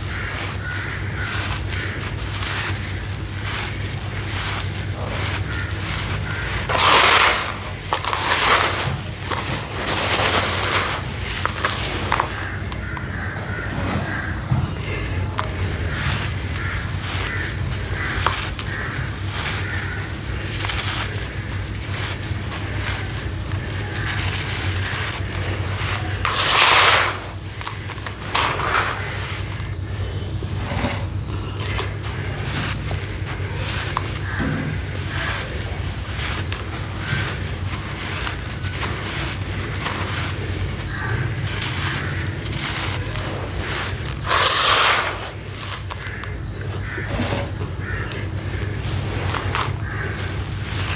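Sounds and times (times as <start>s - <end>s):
sawdust crumbling into water: 0.0s - 13.3s, 15.0s - 29.8s, 30.5s - 50.9s.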